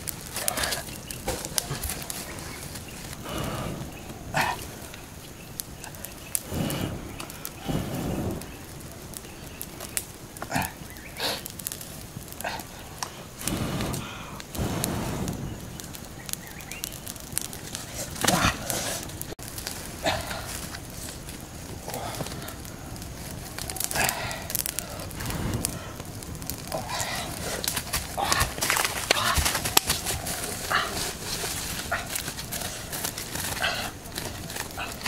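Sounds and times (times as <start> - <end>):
campfire crackling: 0.0 - 35.0.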